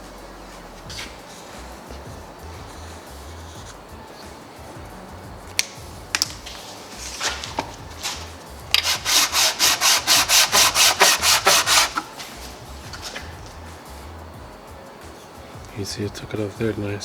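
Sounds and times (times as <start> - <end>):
hand sanding back and forth: 0.0 - 17.0.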